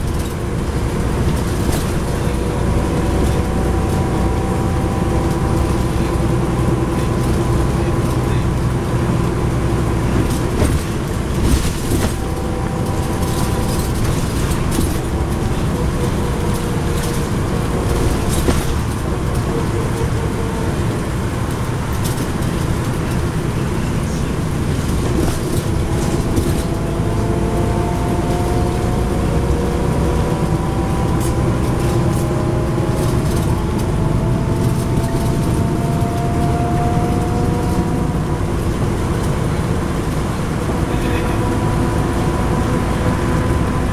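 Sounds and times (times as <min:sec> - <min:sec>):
bus engine rumble: 0:00.0 - 0:43.9
rising drivetrain whine: 0:00.0 - 0:43.9.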